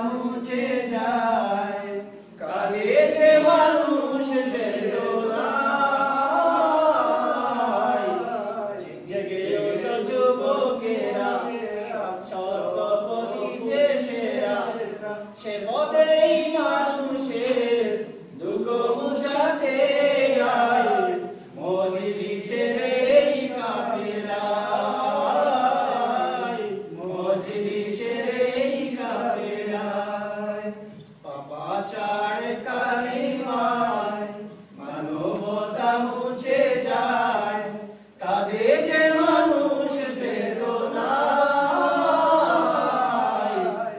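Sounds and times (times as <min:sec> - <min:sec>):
men singing without instruments: 0:00.0 - 0:43.9.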